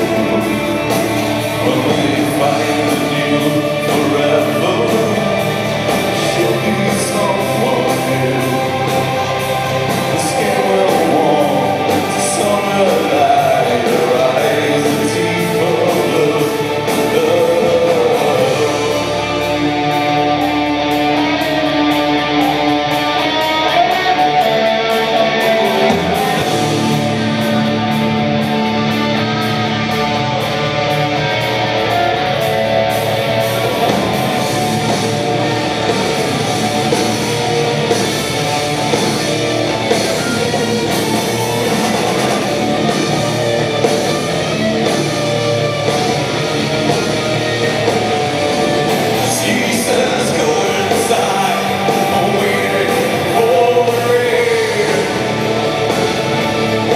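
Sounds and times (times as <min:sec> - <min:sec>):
bass guitar: 0:00.0 - 0:56.9
drum kit: 0:00.0 - 0:56.9
electric guitars: 0:00.0 - 0:56.9.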